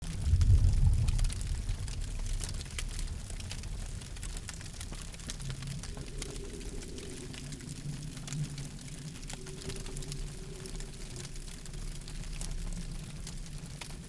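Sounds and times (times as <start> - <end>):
campfire crackling and popping: 0.0 - 14.0
low rush of flames: 0.0 - 14.0.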